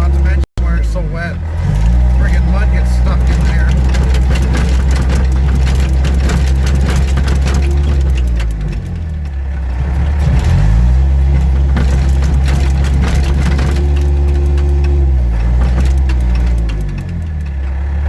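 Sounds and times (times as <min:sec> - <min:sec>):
diesel engine running hard: 0:00.0 - 0:18.0
clicks and rattles: 0:01.5 - 0:18.0.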